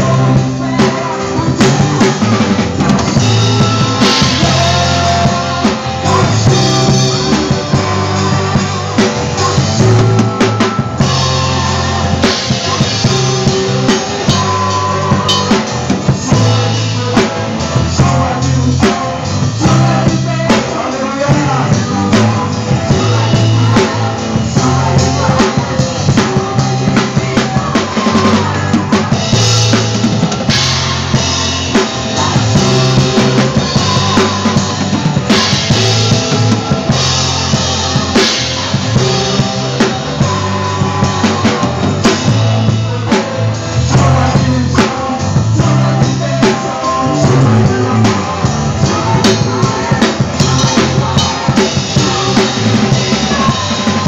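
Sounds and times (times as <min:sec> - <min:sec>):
drum kit playing: 0:00.0 - 0:54.0
worship song backing track: 0:00.0 - 0:54.0.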